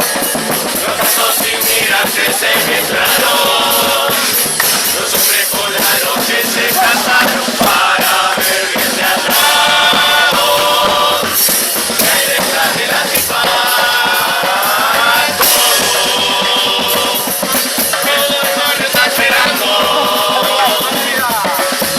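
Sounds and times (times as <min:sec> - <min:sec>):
carnival drums and cymbals: 0:00.0 - 0:21.9
chorus singing in unison: 0:00.0 - 0:21.9.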